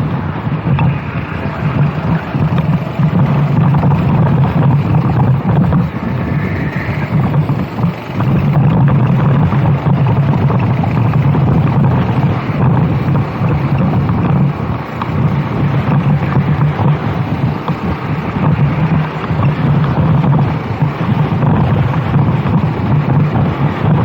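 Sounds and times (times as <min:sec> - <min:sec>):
go-kart engine running: 0:00.0 - 0:24.0
wind buffeting microphone: 0:00.0 - 0:24.0.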